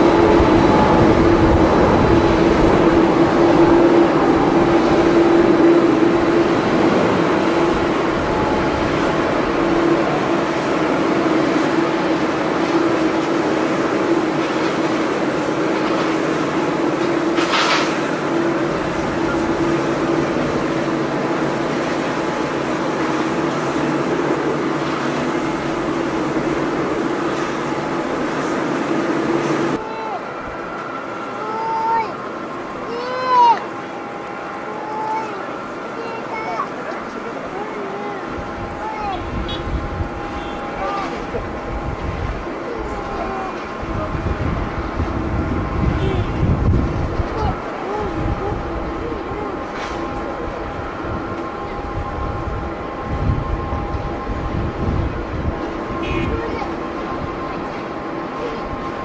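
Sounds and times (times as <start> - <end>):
jet airliner roar: 0.0 - 59.0.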